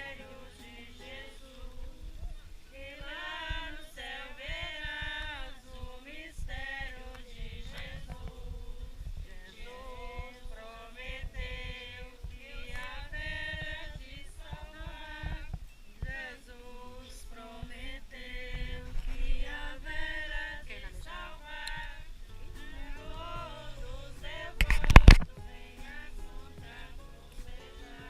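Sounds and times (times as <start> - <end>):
group of people singing: 0.0 - 28.0.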